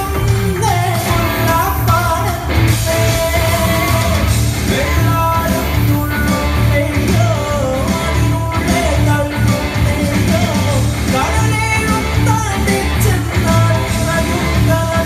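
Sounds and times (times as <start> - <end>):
loud music with singing: 0.0 - 15.0
steady bass beat: 0.0 - 15.0.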